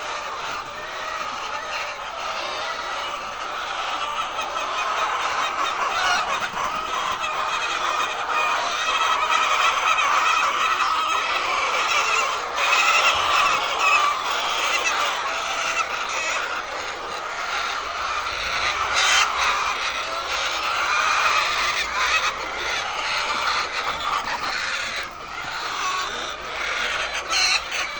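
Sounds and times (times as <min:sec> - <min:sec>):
hens clucking: 0:00.0 - 0:27.9.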